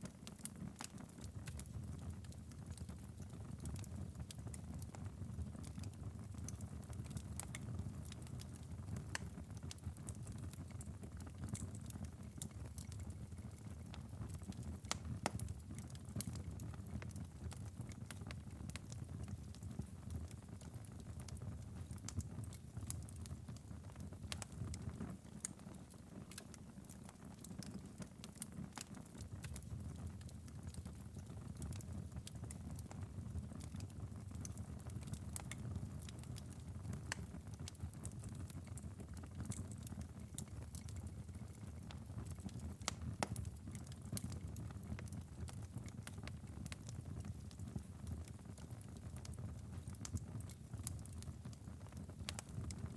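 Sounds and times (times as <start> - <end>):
wood fire crackling: 0.1 - 52.9.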